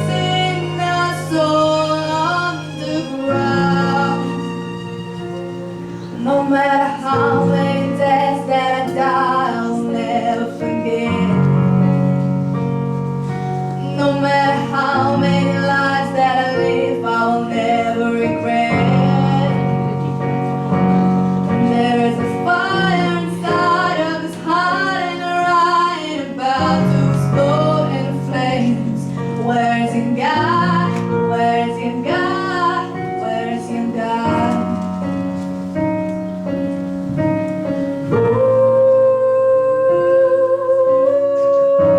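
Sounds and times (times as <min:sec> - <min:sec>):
woman singing slow song: 0:00.0 - 0:04.8, 0:06.1 - 0:12.1, 0:13.8 - 0:20.1, 0:21.4 - 0:35.3, 0:38.2 - 0:41.9
violins: 0:00.0 - 0:38.4
piano: 0:00.0 - 0:41.9.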